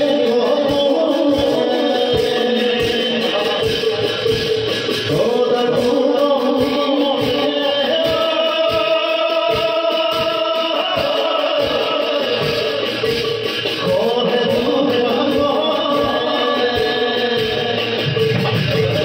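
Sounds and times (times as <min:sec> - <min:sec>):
drum beat: 0:00.0 - 0:19.0
men chanting: 0:00.0 - 0:19.0.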